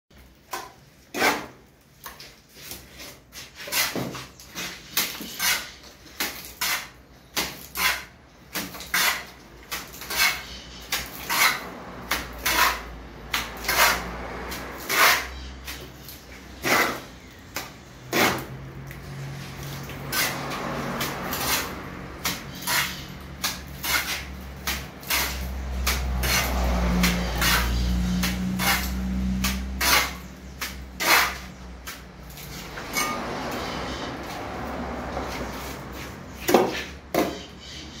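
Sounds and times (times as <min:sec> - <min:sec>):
mortar slapping onto brick wall: 0:00.5 - 0:32.4.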